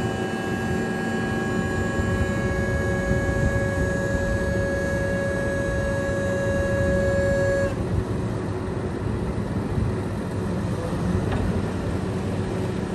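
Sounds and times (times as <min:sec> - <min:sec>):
high steady whine: 0:00.0 - 0:12.9
truck engine rumbling: 0:00.0 - 0:12.9.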